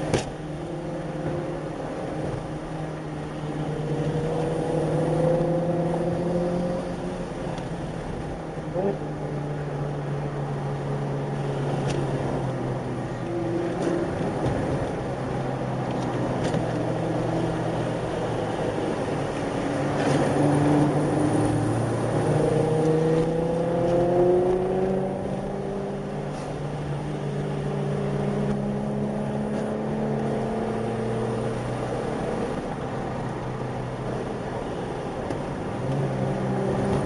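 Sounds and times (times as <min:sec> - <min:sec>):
car engines: 0:00.0 - 0:37.0
tyre and road noise: 0:00.0 - 0:37.0.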